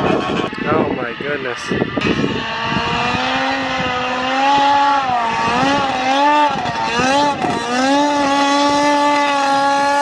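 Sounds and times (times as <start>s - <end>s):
two-stroke engine revving high: 0.0s - 10.0s.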